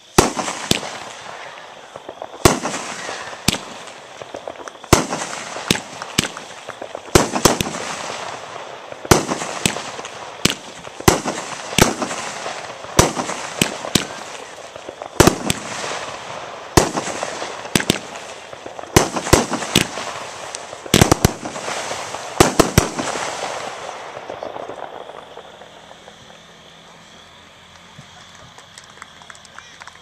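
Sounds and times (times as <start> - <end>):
fireworks bangs: 0.0 - 30.0
fireworks crackling hiss: 0.0 - 30.0.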